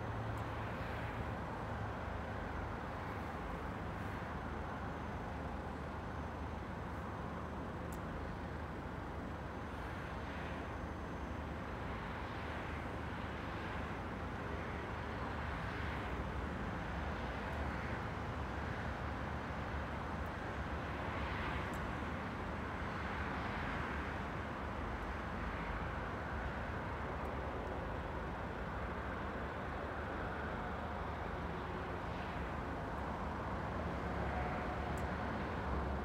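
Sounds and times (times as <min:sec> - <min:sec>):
road traffic noise: 0:00.0 - 0:36.0.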